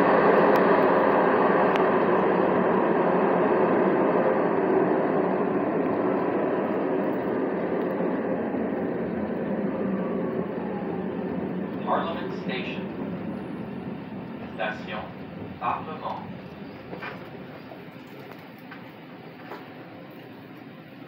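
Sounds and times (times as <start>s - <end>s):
tram wheels and motors rumbling: 0.0s - 21.0s.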